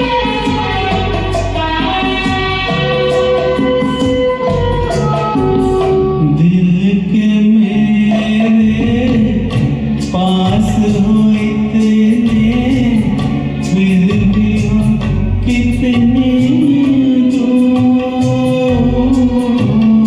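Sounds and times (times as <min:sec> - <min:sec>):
man singing long notes: 0:00.0 - 0:20.0
orchestral backing track: 0:00.0 - 0:20.0.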